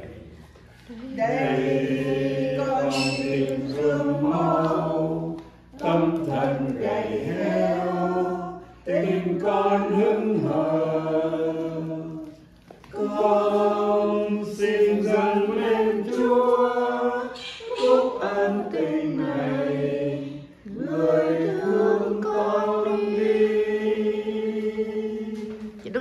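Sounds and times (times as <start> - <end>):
voices singing slow song: 0.0 - 26.0.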